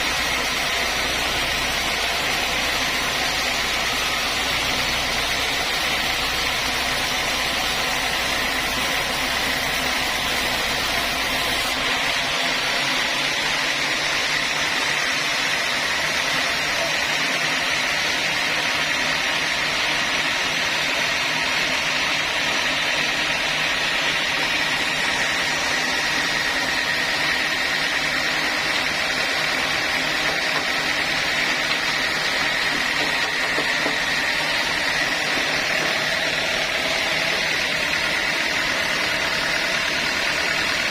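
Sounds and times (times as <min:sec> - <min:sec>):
sawmill saw machinery whining: 0:00.0 - 0:40.9.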